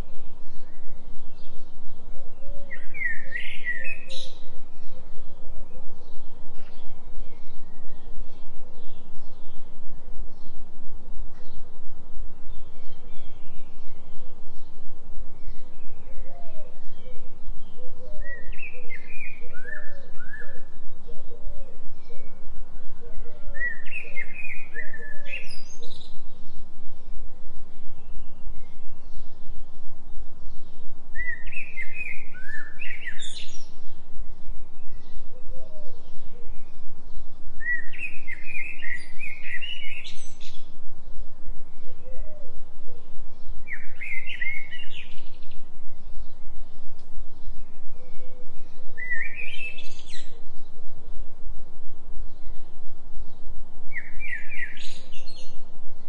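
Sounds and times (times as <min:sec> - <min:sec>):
songbird high chirps: 0:00.0 - 0:56.0
steady low drone tone: 0:00.0 - 0:56.0.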